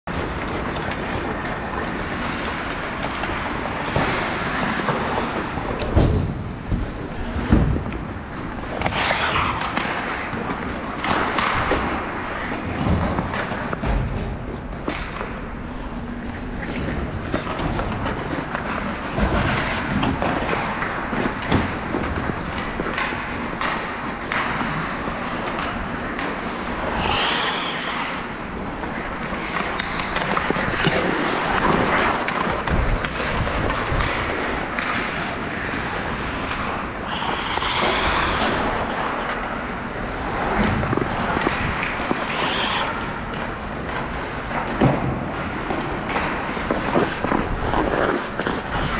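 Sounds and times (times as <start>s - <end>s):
steady scraping rolling noise: 0.1s - 48.9s.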